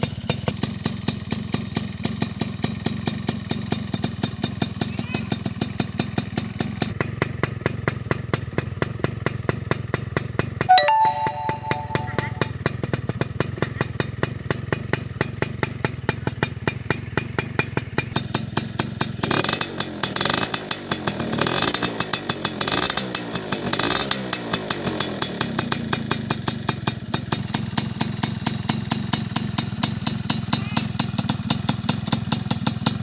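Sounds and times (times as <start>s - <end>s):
motorcycle engine idling and revving: 0.0s - 10.7s, 12.6s - 33.0s.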